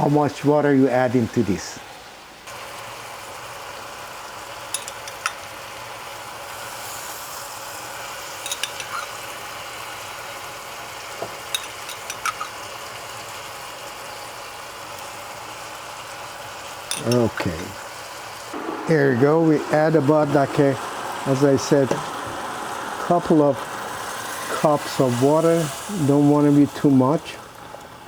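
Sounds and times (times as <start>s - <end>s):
chicken sizzling in oil: 0.8s - 28.0s.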